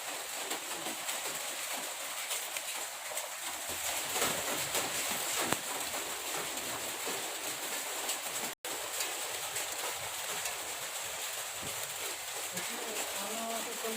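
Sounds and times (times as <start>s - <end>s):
water splashing and running: 0.0s - 13.9s.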